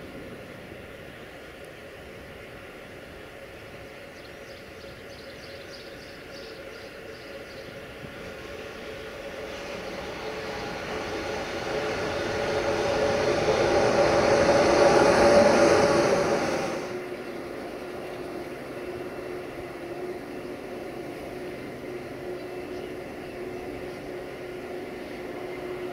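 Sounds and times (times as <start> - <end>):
freight train passing: 0.0 - 25.9.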